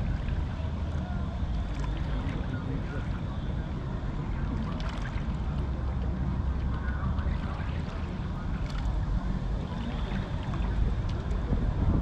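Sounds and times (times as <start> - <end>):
faint distant city sounds: 0.0 - 12.0
low outdoor rumble: 0.0 - 12.0.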